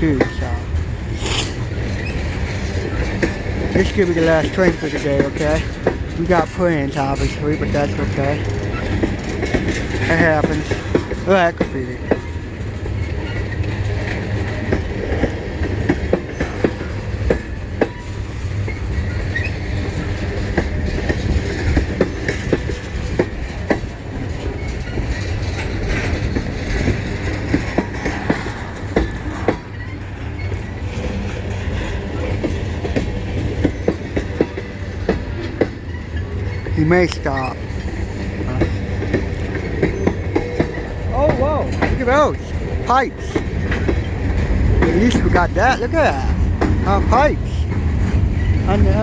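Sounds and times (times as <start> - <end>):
freight train rumbling past: 0.0 - 49.0
wheels clicking over rail joints: 0.0 - 49.0.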